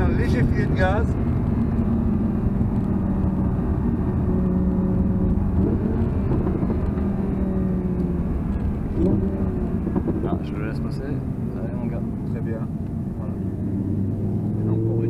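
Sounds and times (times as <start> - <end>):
car engine: 0.0 - 15.0
tyre and road noise: 0.0 - 15.0.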